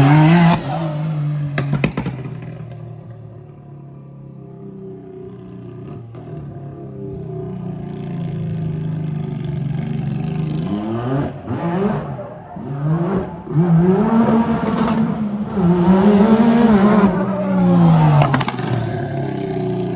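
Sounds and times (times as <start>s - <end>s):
engine idling and revving: 0.0s - 19.9s.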